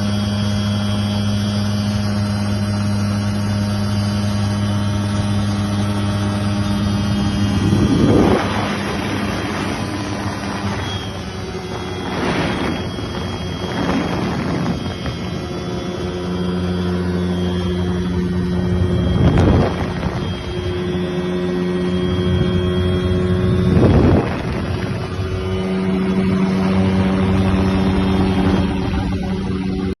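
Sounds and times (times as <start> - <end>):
light airplane engine droning: 0.0 - 30.0
rushes of air noise: 4.8 - 30.0.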